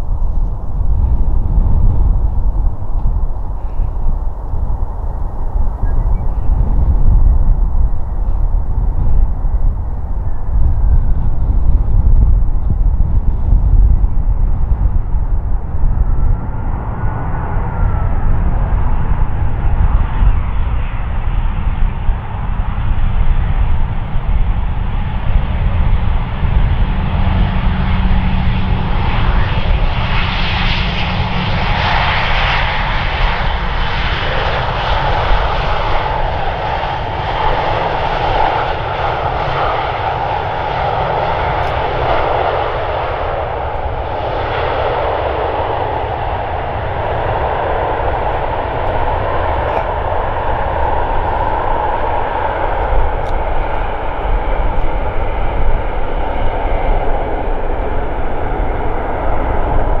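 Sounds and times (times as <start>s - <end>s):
jet engines with whine: 0.0s - 60.0s.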